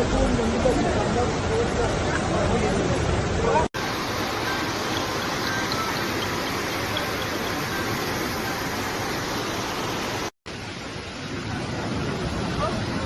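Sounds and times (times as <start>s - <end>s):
rushing floodwater roar: 0.0s - 13.0s.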